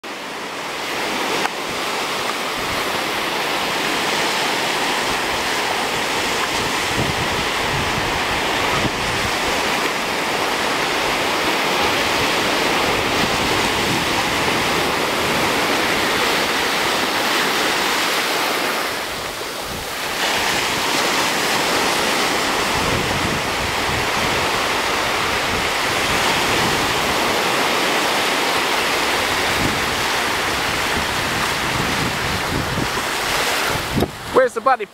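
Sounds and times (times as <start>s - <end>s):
surf waves breaking on beach: 0.0s - 34.9s.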